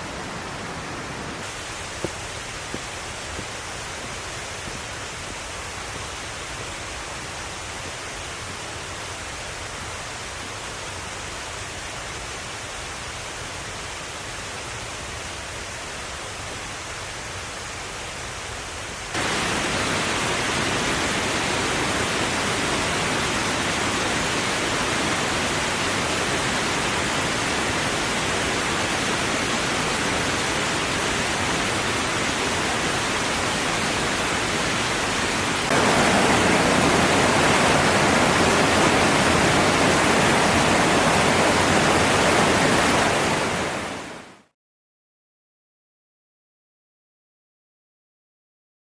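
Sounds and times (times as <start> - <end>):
rushing water: 0.0 - 44.4.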